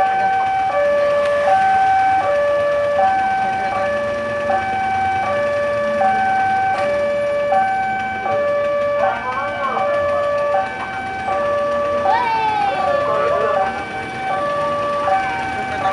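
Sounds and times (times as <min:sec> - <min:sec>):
two-tone crossing warning siren: 0:00.0 - 0:15.9.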